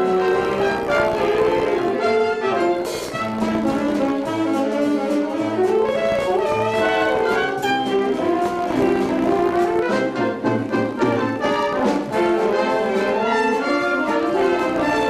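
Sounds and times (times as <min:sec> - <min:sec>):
orchestra playing show music: 0:00.0 - 0:15.0
trumpets and trombones: 0:00.0 - 0:15.0.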